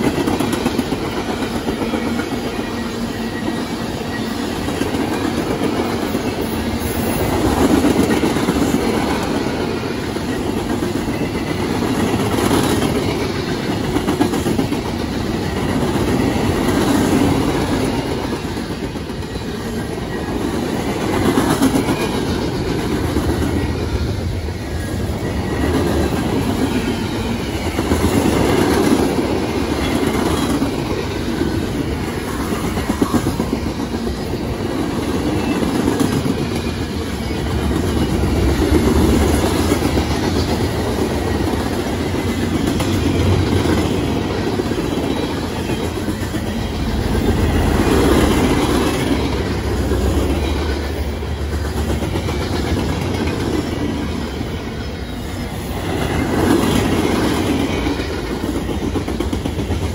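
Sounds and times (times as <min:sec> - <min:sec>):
freight train wheels rumbling: 0:00.0 - 0:59.9
wheels clickety-clack: 0:00.0 - 0:59.9.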